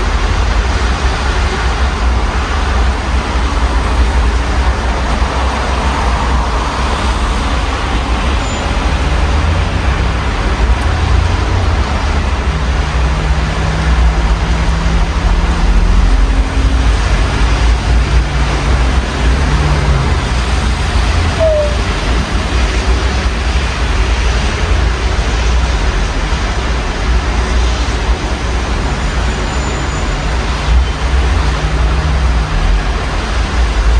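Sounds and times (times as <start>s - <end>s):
steady rain: 0.0s - 33.9s
street traffic: 0.0s - 33.9s
vehicle engine rumble: 0.0s - 33.9s.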